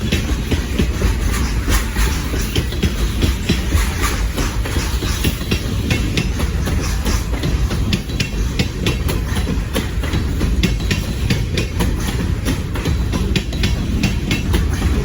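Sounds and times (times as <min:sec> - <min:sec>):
train rumble: 0:00.0 - 0:15.0
train wheels clickety-clack: 0:00.0 - 0:15.0.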